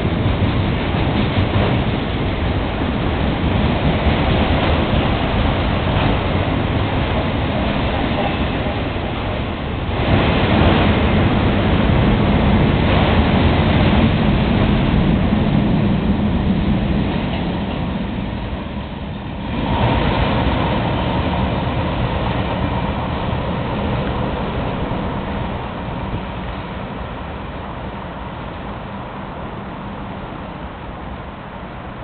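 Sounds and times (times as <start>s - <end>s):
freight train cars rolling: 0.0s - 32.0s.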